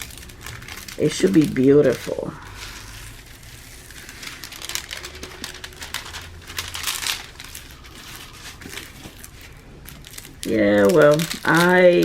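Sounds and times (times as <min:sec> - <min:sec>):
canvas and plastic crinkling: 0:00.0 - 0:12.0.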